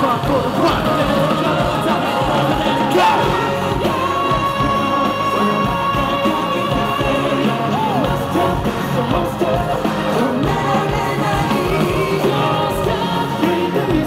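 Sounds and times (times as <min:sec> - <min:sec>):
male vocals singing: 0:00.0 - 0:14.0
pop backing track with beat: 0:00.0 - 0:14.0.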